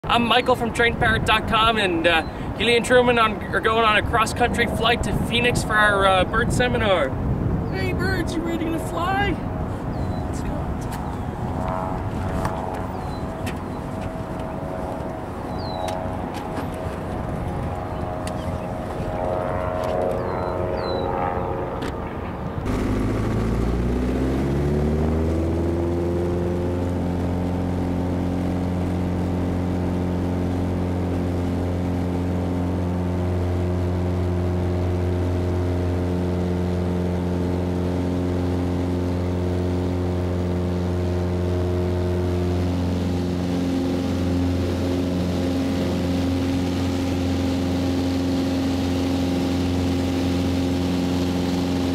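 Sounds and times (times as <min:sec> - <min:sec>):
propeller plane engine: 0:00.0 - 0:51.9.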